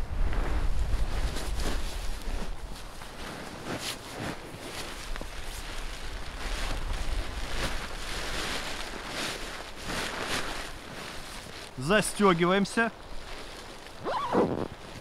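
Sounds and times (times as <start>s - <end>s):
wind rumbling on microphone: 0.0s - 11.8s, 12.9s - 15.0s
sleeping bag rustling: 0.2s - 15.0s.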